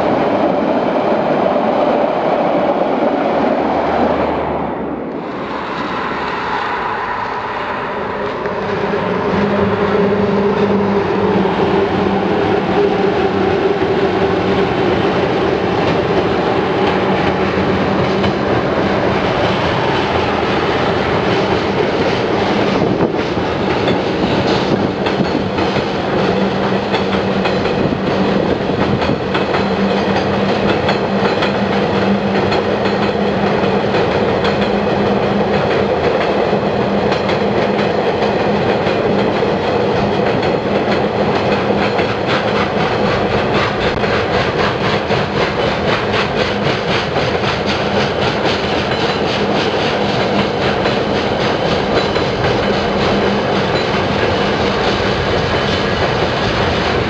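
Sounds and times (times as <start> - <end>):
train passing humming: 0.0 - 57.0.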